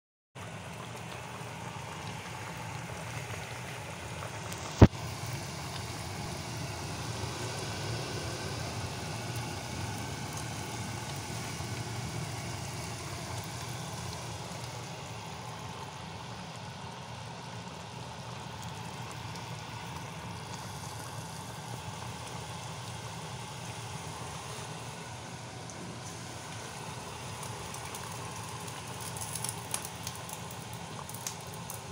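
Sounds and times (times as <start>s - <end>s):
stew bubbling in a pot: 0.4s - 31.9s.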